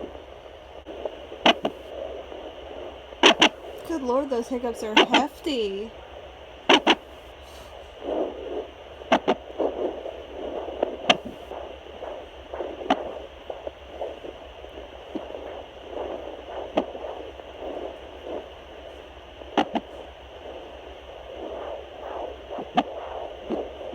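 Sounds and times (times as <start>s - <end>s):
fetal doppler swishing pulse: 0.9s - 5.8s, 6.7s - 7.4s, 8.0s - 23.9s.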